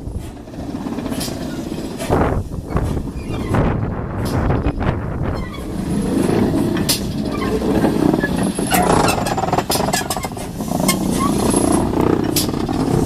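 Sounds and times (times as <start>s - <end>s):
sharp clanks and clicks: 0.0s - 5.0s, 5.6s - 13.0s
train rumbling: 0.0s - 13.0s.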